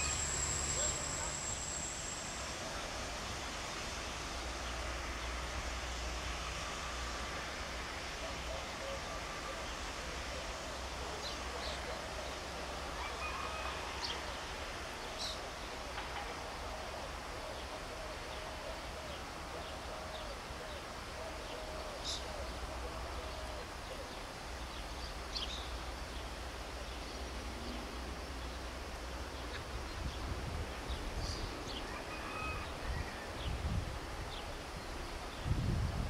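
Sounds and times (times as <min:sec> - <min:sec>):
low rumble and hiss: 0:00.0 - 0:36.0.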